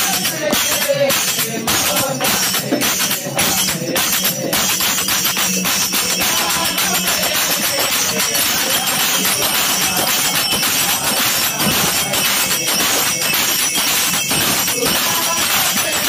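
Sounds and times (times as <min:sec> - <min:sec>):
jingling metal percussion: 0:00.0 - 0:16.0.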